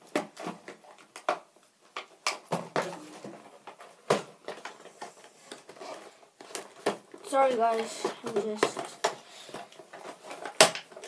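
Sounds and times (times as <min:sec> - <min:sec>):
plastic parts clicking and knocking: 0:00.0 - 0:11.0.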